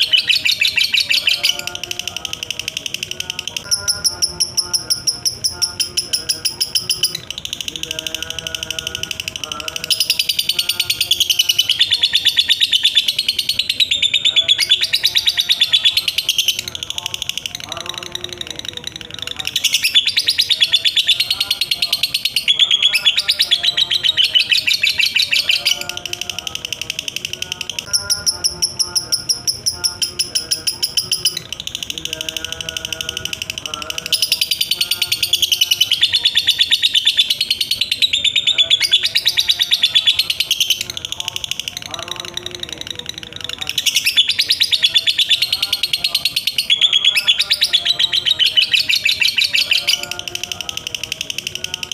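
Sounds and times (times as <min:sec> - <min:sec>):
lovebird chattering trill: 0:00.0 - 0:51.9.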